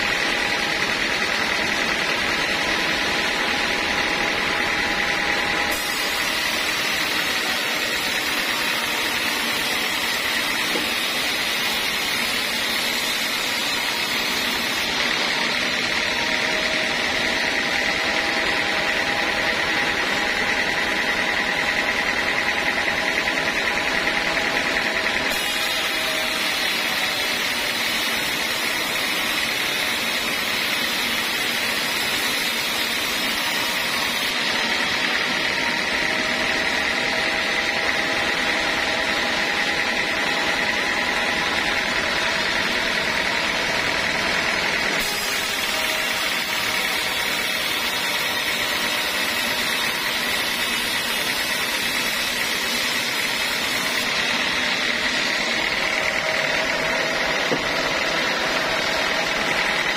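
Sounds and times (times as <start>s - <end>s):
band saw cutting wood: 0.0s - 59.9s.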